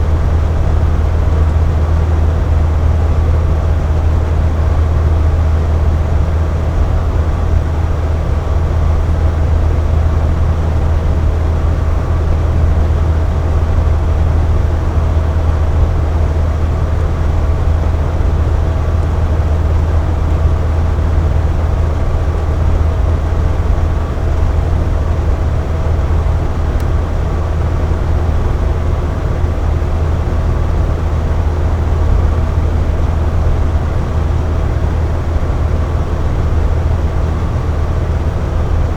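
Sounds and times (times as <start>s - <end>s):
air conditioner humming: 0.0s - 38.9s.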